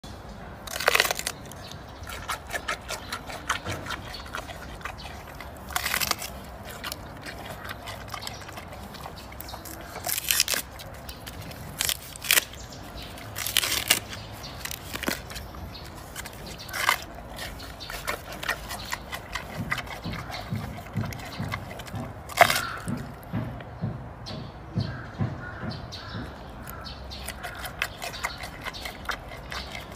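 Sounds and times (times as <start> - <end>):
sharp bamboo crunches: 0.6 - 23.4, 26.6 - 29.9
panda chewing bamboo: 0.6 - 23.6, 26.6 - 29.9.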